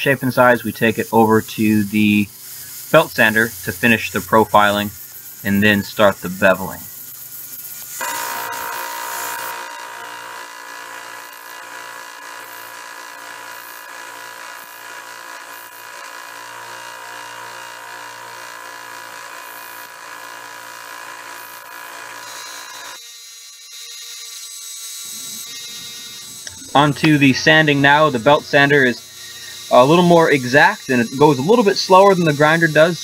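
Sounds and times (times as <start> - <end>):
angle grinder hiss: 0.0 - 23.0, 23.9 - 33.0
belt sander grinding metal: 0.0 - 33.0.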